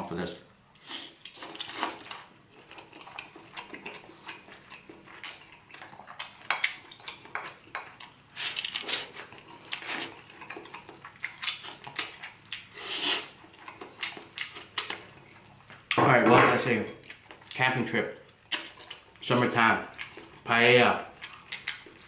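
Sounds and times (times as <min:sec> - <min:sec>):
chewing and mouth smacks: 0:00.8 - 0:16.0, 0:18.2 - 0:19.2, 0:19.9 - 0:22.0.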